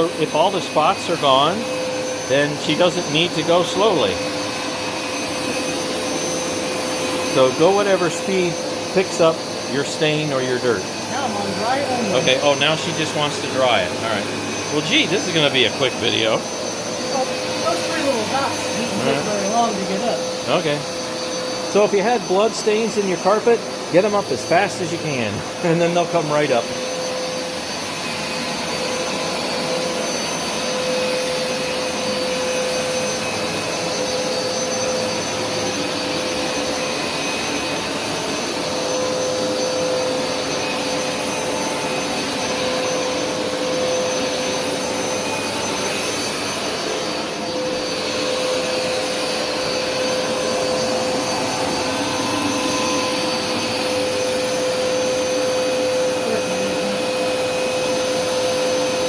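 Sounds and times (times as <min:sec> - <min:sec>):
carpet washer motor humming: 0:00.0 - 0:59.0.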